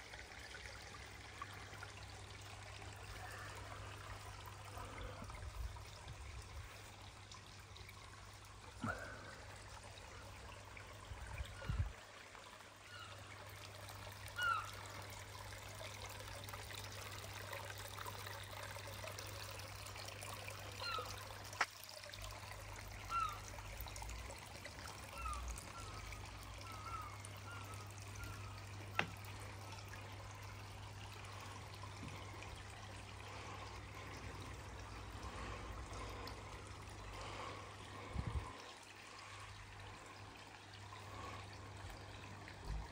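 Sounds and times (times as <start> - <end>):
water trickling in a pond: 0.0 - 42.9.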